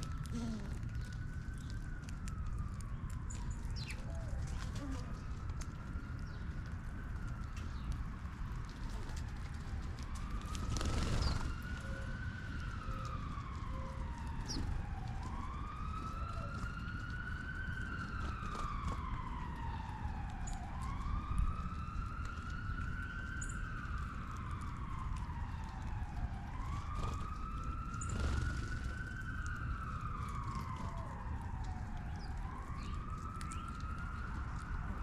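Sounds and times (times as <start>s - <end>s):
siren wailing: 0.0s - 35.0s.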